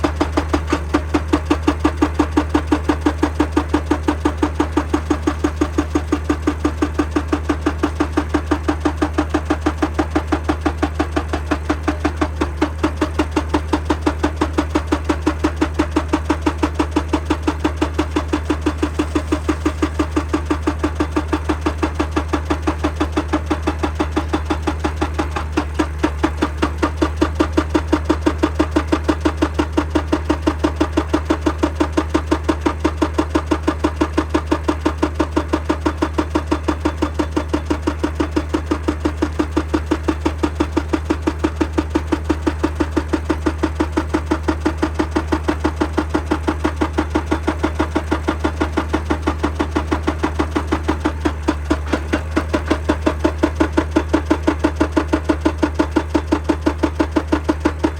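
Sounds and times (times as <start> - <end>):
diesel engine drone: 0.0 - 57.9
hydraulic breaker hammering rock: 0.0 - 57.9.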